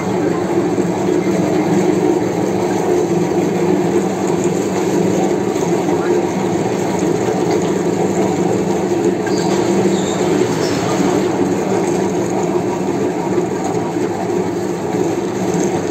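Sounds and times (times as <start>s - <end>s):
meat mincer grinding: 0.3s - 15.9s.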